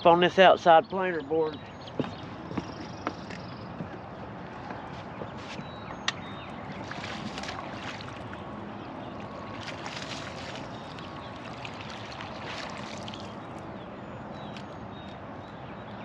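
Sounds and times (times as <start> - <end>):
boat noise on water: 0.0 - 16.0.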